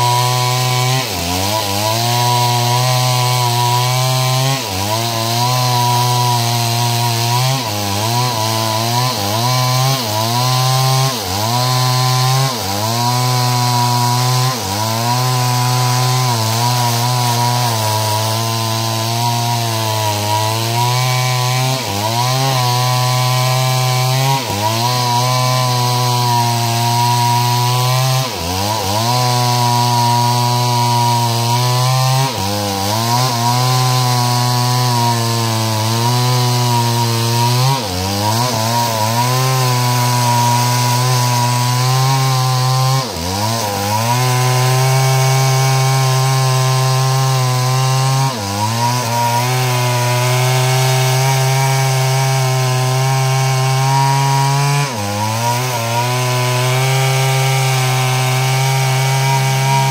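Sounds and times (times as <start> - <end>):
chainsaw ripping wood: 0.0 - 59.9.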